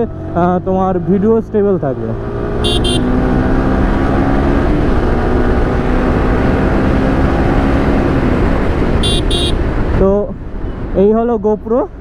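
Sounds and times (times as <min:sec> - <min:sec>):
motorcycle engine cruising: 0:00.0 - 0:10.9.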